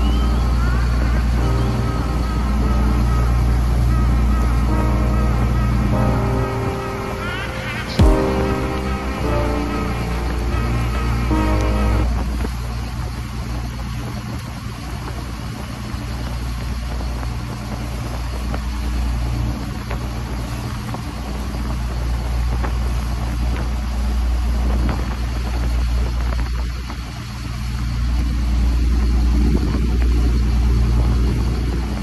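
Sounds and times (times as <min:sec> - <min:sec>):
boat engine humming: 0:00.0 - 0:32.0
churning wake rushing: 0:00.0 - 0:32.0.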